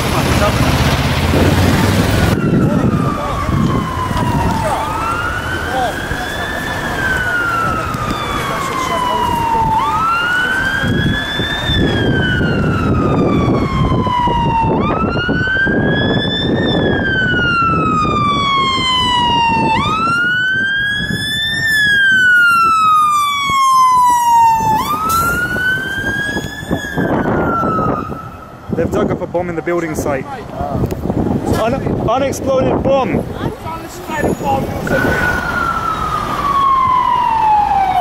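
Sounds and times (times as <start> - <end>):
fire engine siren wailing: 0.0 - 29.8, 32.7 - 38.0
engine and road noise: 0.0 - 38.0.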